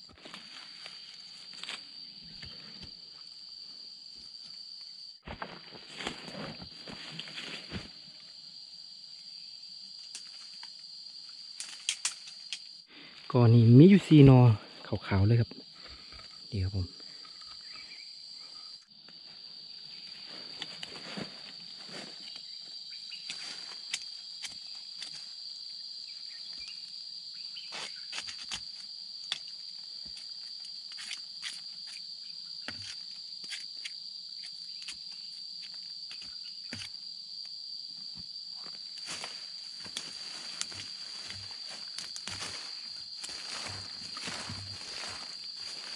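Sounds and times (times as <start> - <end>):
high-pitched insect drone: 6.0 - 45.9.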